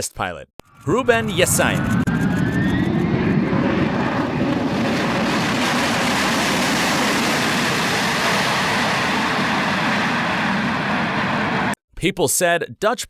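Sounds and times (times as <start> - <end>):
aircraft engines running: 0.7 - 11.8.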